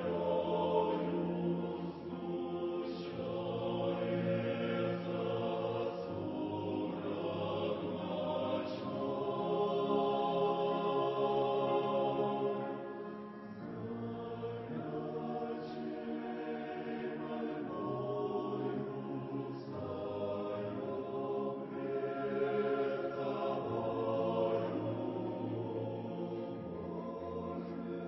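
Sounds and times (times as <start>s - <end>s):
choir singing a slow hymn: 0.0s - 28.0s.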